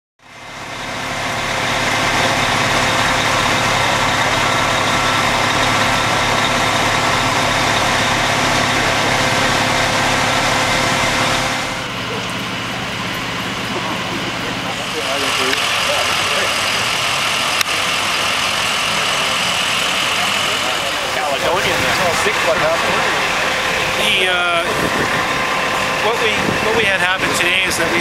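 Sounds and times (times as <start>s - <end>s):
large engine idling: 0.2s - 28.0s.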